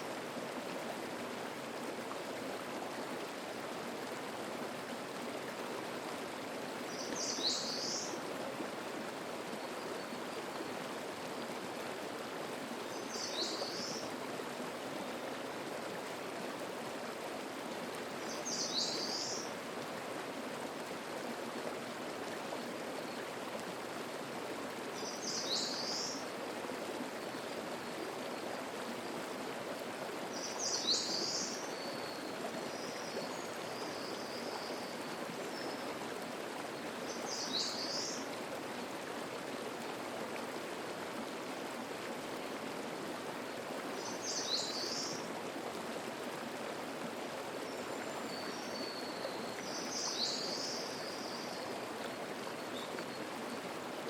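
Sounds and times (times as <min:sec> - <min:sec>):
mountain stream babbling: 0:00.0 - 0:54.0.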